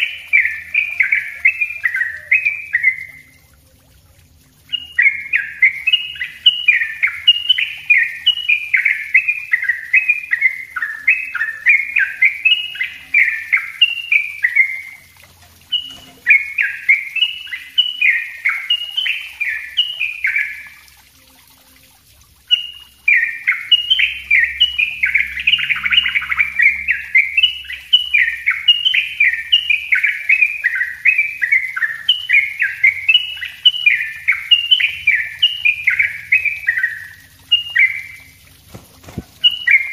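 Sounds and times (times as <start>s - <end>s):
bird singing rapid chirps: 0.0s - 3.5s, 4.6s - 20.9s, 22.4s - 39.9s.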